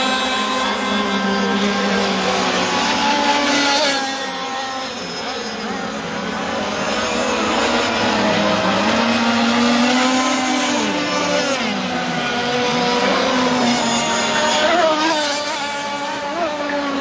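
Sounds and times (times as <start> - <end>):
model boat engines whining: 0.0 - 17.0.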